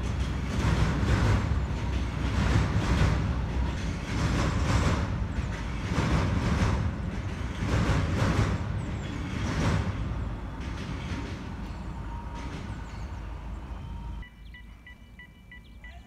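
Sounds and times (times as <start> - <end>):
train rumbling over bridge: 0.0 - 15.8.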